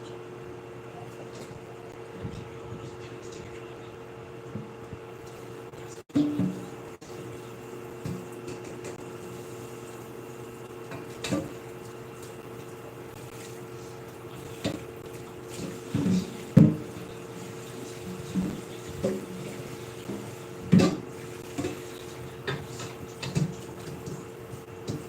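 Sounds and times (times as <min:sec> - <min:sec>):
water running: 0:02.1 - 0:25.0.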